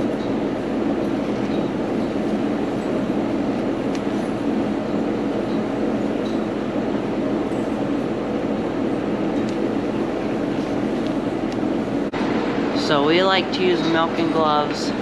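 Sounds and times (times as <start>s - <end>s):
vacuum pump droning: 0.0s - 15.0s.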